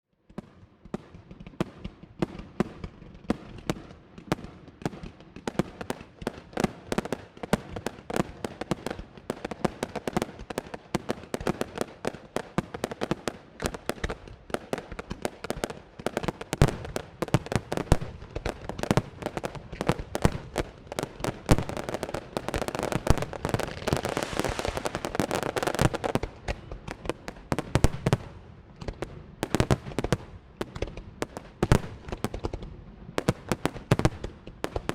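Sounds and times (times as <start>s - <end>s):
fireworks bangs and crackling: 0.3s - 34.9s.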